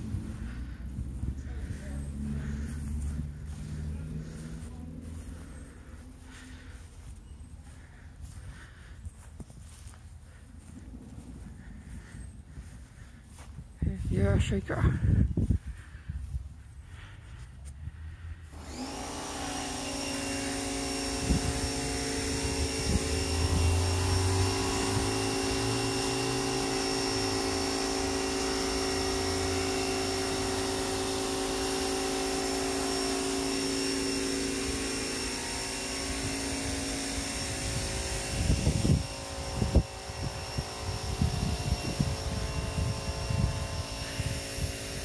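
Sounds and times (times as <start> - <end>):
machine motor humming and whining: 0.0 - 14.2, 18.1 - 45.0.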